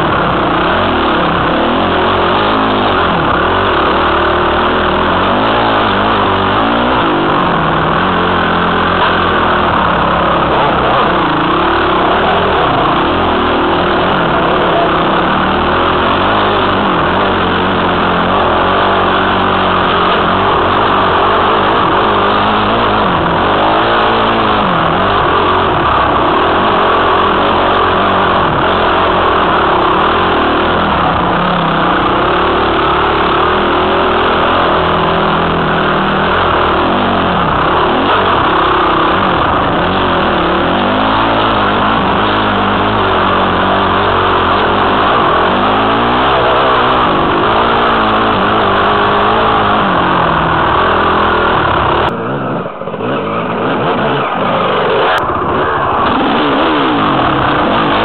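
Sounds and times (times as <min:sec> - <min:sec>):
dirt bike engine revving: 0:00.0 - 0:58.0
steady rush of noise: 0:00.0 - 0:58.0.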